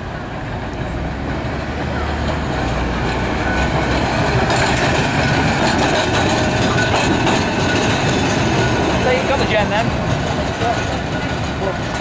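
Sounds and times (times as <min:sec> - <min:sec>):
tram rumbling and clattering on rails: 0:00.0 - 0:12.0.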